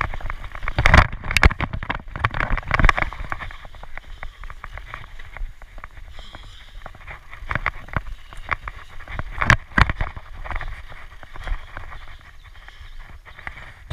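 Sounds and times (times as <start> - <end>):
bike rattling: 0.0 - 13.9
bike tyres rumbling on dirt: 0.0 - 13.9.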